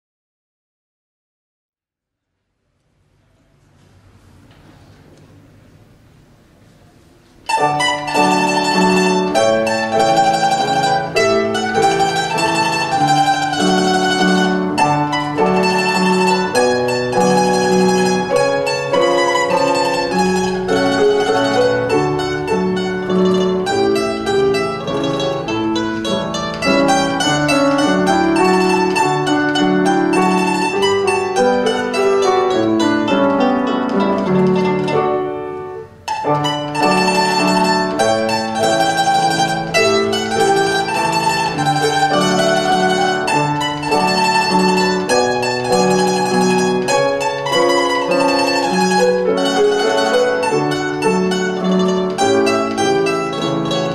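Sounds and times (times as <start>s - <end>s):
piano: 3.2s - 53.9s
plucked lute melody: 7.3s - 53.9s.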